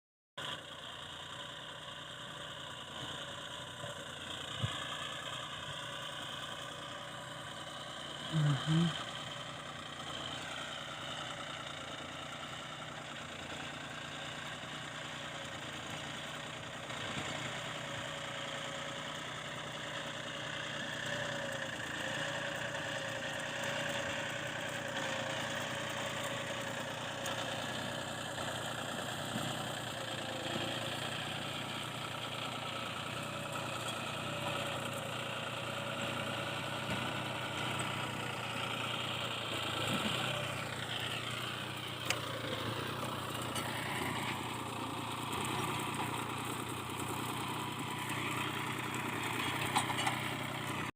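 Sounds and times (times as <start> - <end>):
tractor diesel engine running: 0.4 - 50.9.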